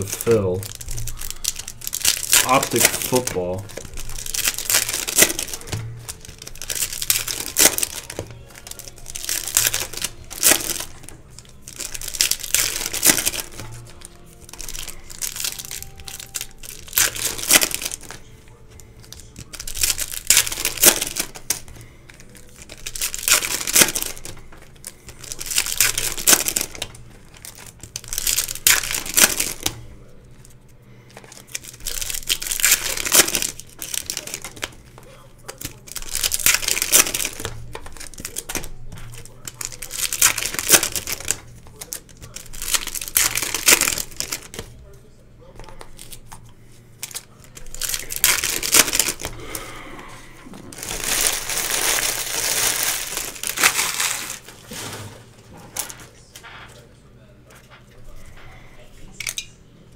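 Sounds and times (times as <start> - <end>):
plastic wrapping crinkling and tearing: 0.0 - 56.9.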